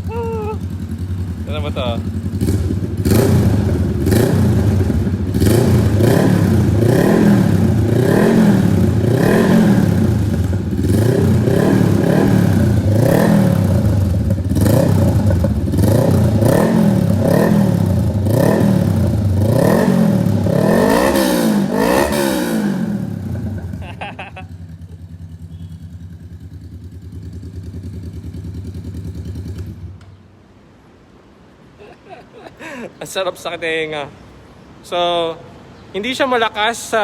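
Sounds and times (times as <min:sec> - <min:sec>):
motorcycle engine revving: 0:00.0 - 0:30.2.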